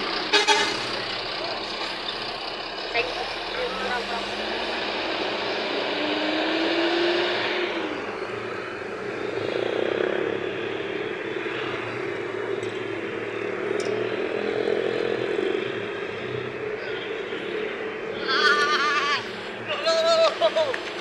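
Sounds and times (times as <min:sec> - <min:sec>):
passing vehicles: 0:00.0 - 0:21.0.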